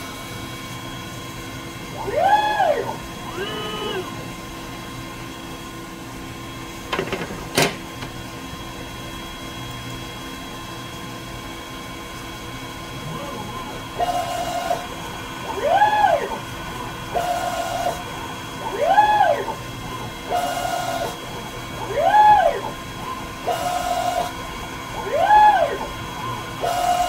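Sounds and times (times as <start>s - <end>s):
spindle hum: 0.0s - 6.8s, 8.1s - 27.0s
axis motor whine: 0.0s - 9.7s, 12.3s - 27.0s.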